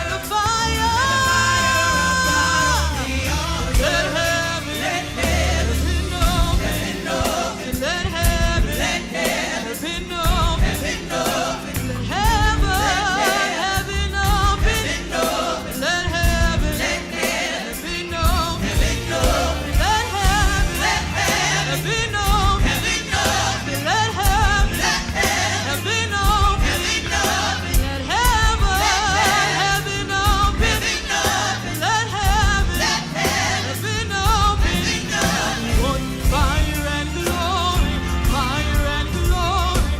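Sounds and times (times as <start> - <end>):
band with bass and drums: 0.0 - 39.9
singer and choir singing gospel: 0.0 - 39.9.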